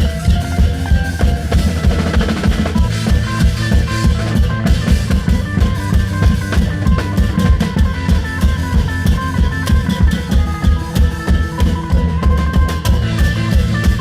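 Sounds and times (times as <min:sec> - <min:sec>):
drum band music: 0:00.0 - 0:14.0.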